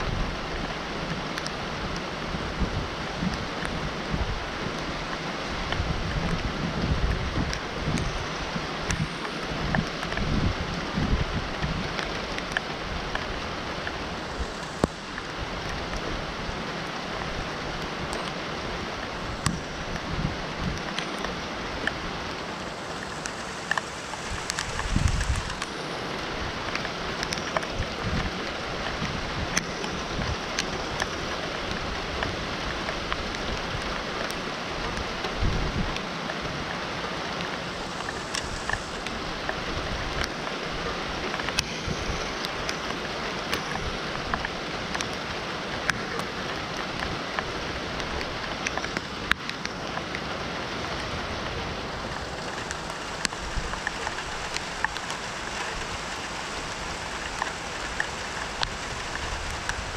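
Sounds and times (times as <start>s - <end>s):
raindrops hitting near microphone: 0.0s - 59.9s
steady rain falling: 0.0s - 59.9s.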